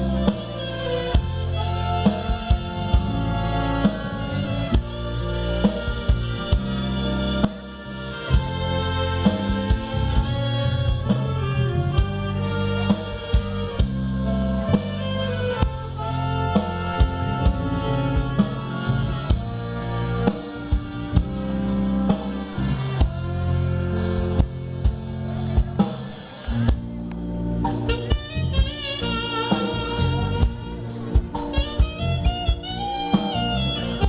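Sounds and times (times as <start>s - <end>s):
instrumental ensemble playing: 0.0s - 34.0s.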